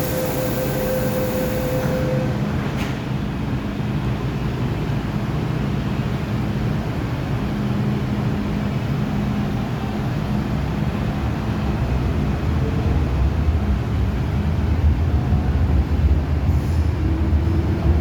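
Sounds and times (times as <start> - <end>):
metro train motors humming: 0.0 - 18.0.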